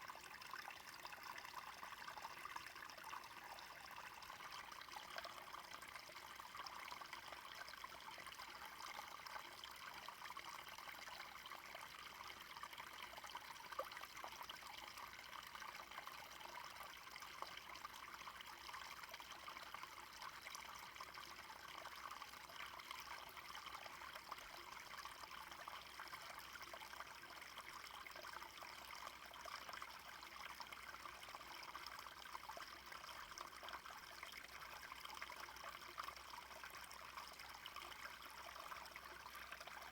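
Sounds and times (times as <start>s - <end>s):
brook trickling: 0.0s - 39.9s.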